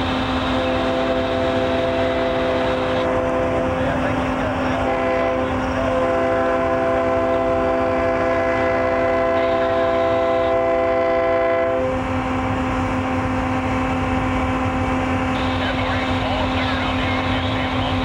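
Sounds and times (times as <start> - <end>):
locomotive air horn chord: 0.0 - 17.8
diesel engines running: 0.0 - 18.0.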